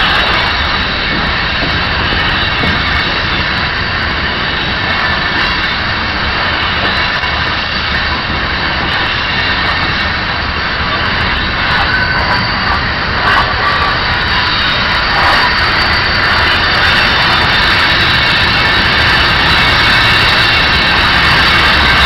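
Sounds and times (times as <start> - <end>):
train wheels rumbling on rail: 0.0 - 22.0
wind buffeting microphone: 0.0 - 22.0.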